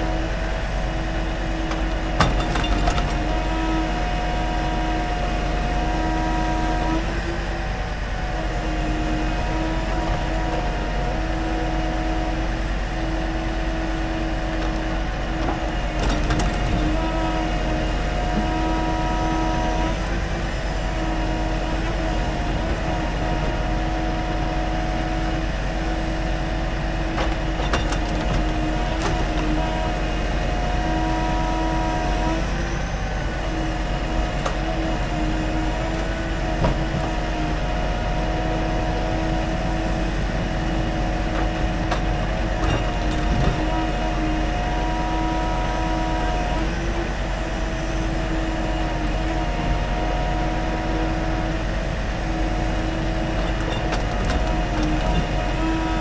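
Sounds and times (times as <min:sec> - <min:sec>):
crane hydraulic whine: 0:00.0 - 0:56.0.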